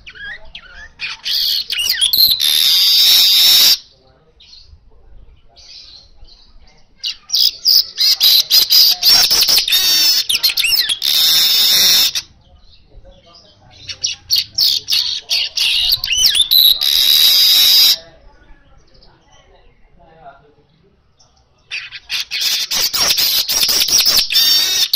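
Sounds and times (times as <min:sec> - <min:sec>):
weaver bird singing: 0:00.0 - 0:03.8, 0:05.5 - 0:18.0, 0:20.7 - 0:24.9.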